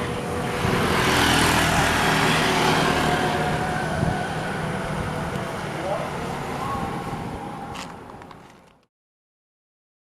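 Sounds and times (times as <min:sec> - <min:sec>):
motor vehicle passing: 0:00.0 - 0:08.7.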